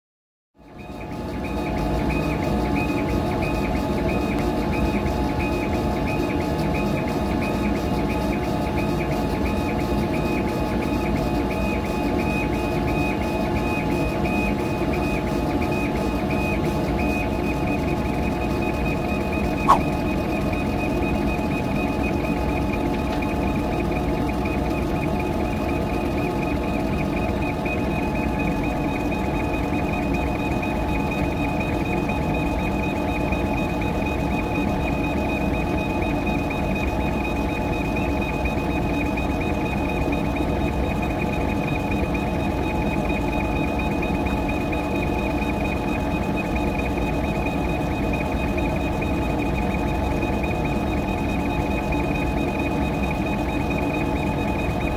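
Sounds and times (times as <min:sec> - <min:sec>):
laser engraver mechanical drone: 0:00.7 - 0:54.9.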